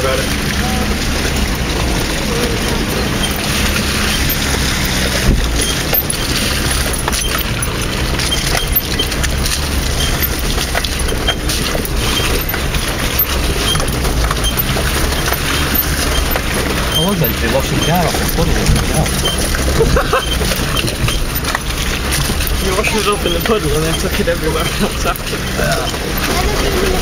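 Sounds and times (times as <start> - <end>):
car body rattling and knocking: 0.0 - 27.0
car engine droning: 0.0 - 27.0.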